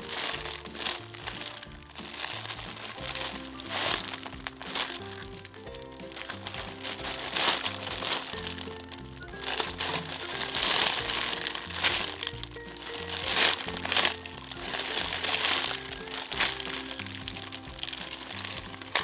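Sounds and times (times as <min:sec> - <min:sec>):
background music with bass line: 0:00.0 - 0:19.0
plastic packaging crinkling: 0:00.0 - 0:19.0.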